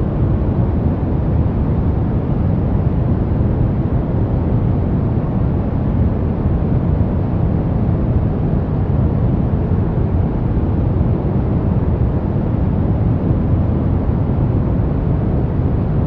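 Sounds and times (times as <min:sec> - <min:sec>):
deep rumbling brown noise: 0:00.0 - 0:16.0.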